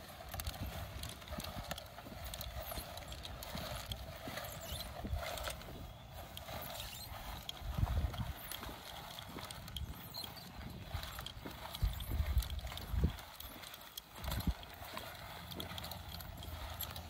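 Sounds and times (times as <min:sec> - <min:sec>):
push seeder clicking and rattling: 0:00.0 - 0:17.0.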